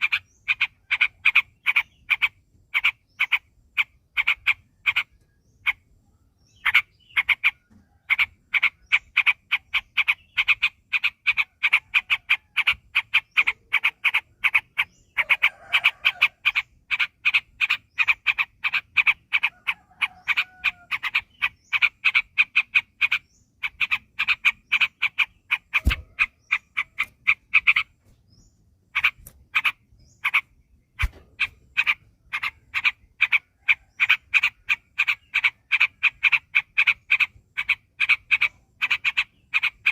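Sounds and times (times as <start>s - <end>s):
bird singing rapid repeated notes: 0.0s - 39.9s.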